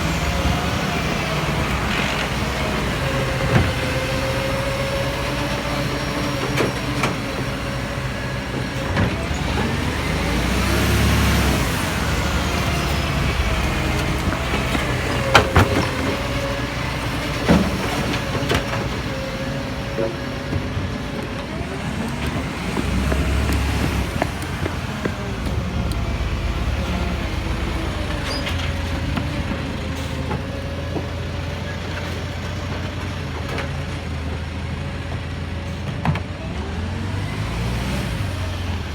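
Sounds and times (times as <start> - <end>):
garbage truck engine whining: 0.0 - 38.9.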